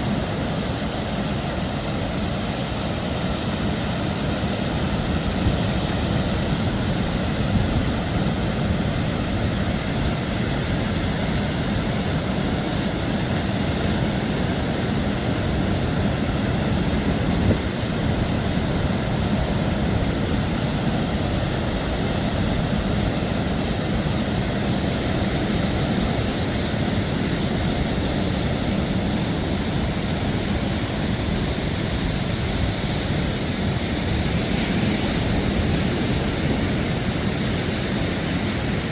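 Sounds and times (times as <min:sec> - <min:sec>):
ocean surf: 0:00.0 - 0:38.9
wind: 0:00.0 - 0:38.9.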